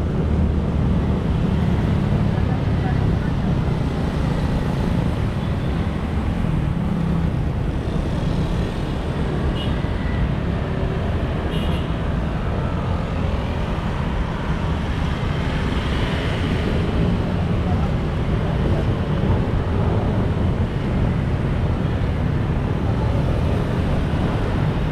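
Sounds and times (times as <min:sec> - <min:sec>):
scooters and cars passing: 0:00.0 - 0:24.9.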